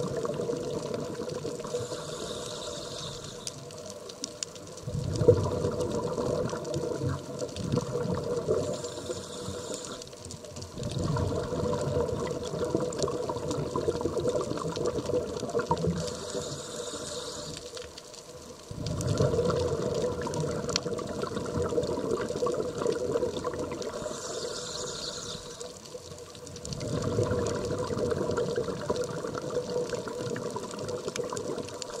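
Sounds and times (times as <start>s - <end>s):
regulator hiss on inhale: 0.0s - 4.5s, 8.1s - 14.2s, 15.0s - 32.0s
exhaled bubbles underwater: 0.0s - 17.6s, 18.7s - 32.0s.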